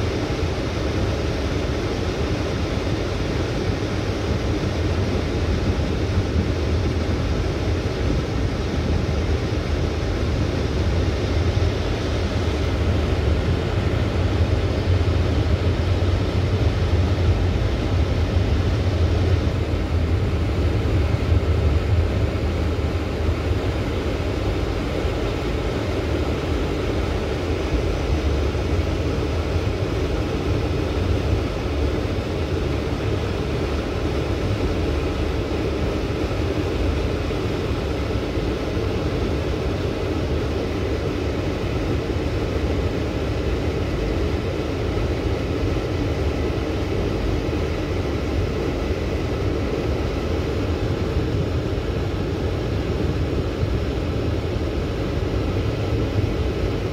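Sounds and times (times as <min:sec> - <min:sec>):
train rumble inside carriage: 0:00.0 - 0:56.9.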